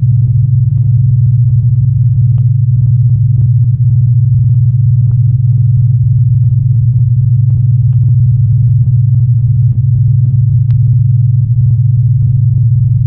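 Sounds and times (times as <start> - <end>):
faint crackles: 0.0 - 13.0
low fluttering monster drone: 0.0 - 13.0.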